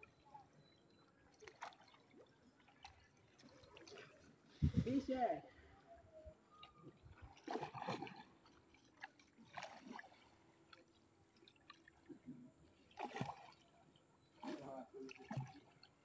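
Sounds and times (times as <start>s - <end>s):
paddle splashing in water: 1.3s - 4.8s, 6.5s - 16.0s.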